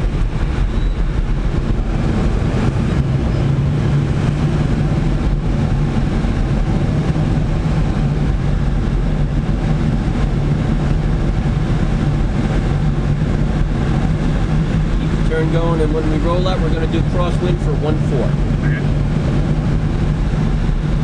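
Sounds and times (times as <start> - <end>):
airflow rushing around cockpit: 0.0 - 21.0
low hum: 0.0 - 21.0.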